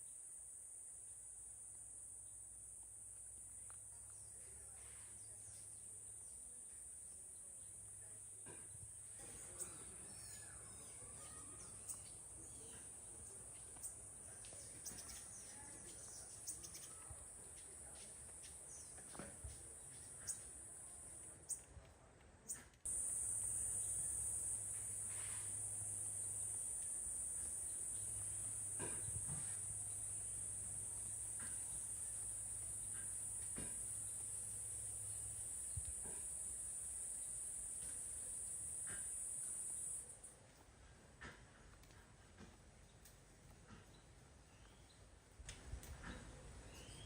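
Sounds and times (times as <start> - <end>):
insects droning: 0.0 - 21.7, 22.9 - 40.3.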